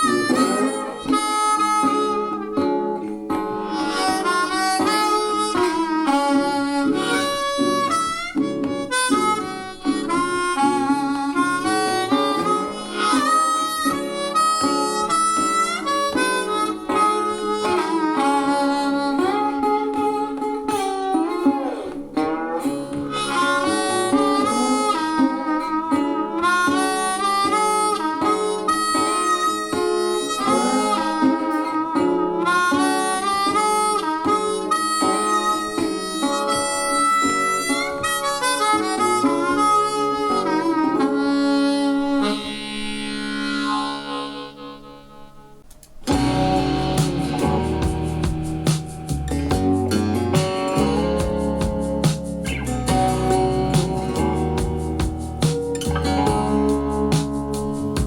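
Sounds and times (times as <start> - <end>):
guitar: 0.0 - 58.0
harmonica melody: 0.0 - 58.0.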